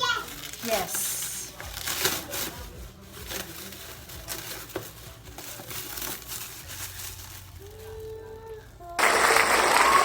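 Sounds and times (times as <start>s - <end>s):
packaging crinkling: 0.1s - 8.5s.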